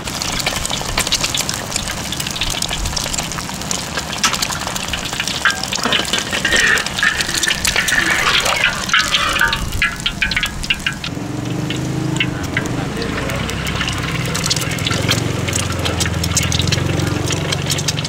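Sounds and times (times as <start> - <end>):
eggs sizzling in hot oil: 0.0 - 18.0
oil crackling and popping: 0.0 - 18.0.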